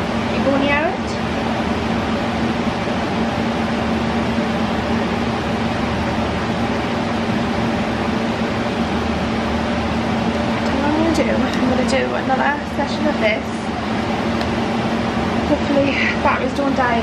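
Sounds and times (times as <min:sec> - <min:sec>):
fan whirring: 0:00.0 - 0:17.0.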